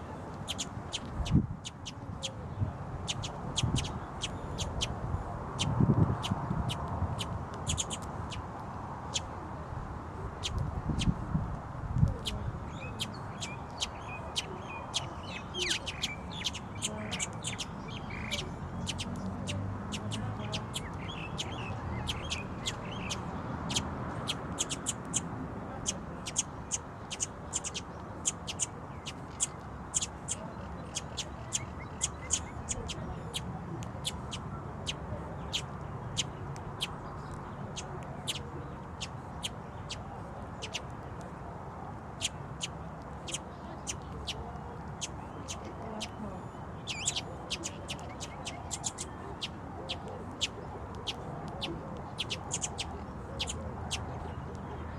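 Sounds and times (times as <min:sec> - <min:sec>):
small birds chirping: 0:00.0 - 0:09.4, 0:10.4 - 0:11.3, 0:12.0 - 0:41.4, 0:42.0 - 0:54.9.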